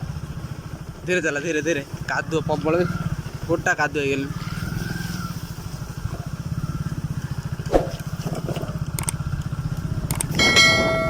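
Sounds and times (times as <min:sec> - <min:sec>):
motorcycle engine puttering: 0:00.0 - 0:11.0.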